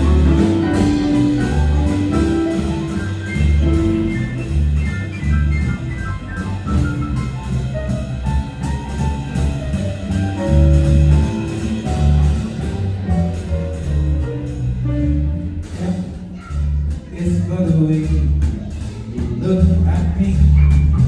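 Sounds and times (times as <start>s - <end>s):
jazzy band instrumental: 0.0s - 21.0s.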